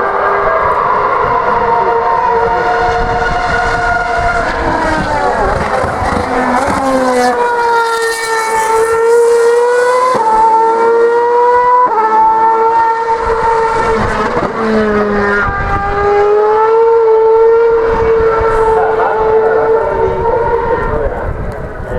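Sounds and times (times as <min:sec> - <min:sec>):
racing car engines screaming: 0:00.0 - 0:21.9.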